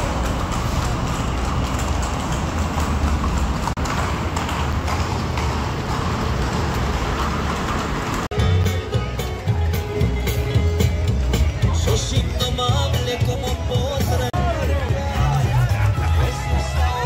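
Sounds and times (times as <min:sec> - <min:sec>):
horse hooves on asphalt: 0:00.0 - 0:17.0.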